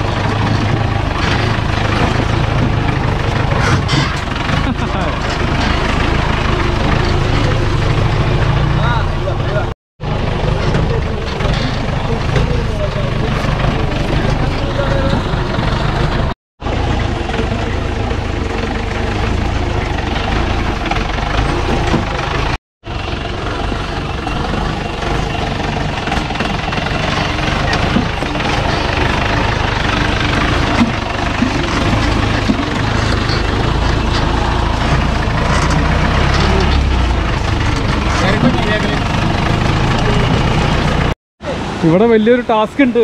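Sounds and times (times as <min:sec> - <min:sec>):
jeep engine running: 0:00.0 - 0:43.0.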